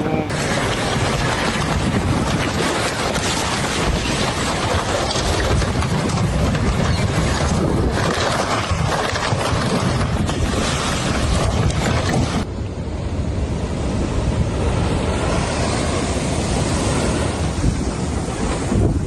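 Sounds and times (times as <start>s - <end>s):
rough water: 0.0s - 19.0s
strong wind rushing: 0.0s - 19.0s
wind buffeting microphone: 0.0s - 19.0s.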